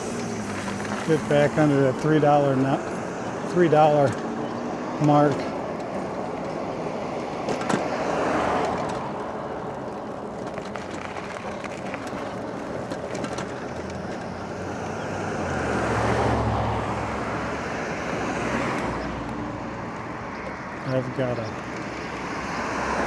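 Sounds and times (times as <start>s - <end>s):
passing vehicle engine hum: 0.0s - 23.0s
road noise: 0.0s - 23.0s.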